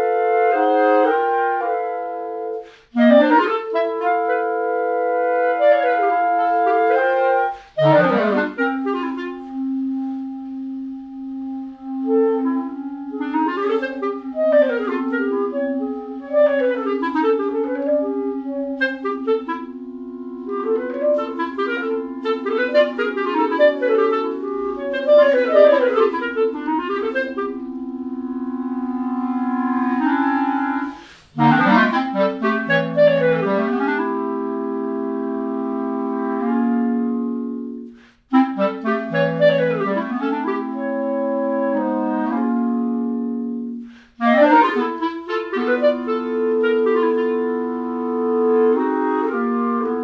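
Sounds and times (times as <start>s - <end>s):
clarinet playing: 0.0s - 50.0s.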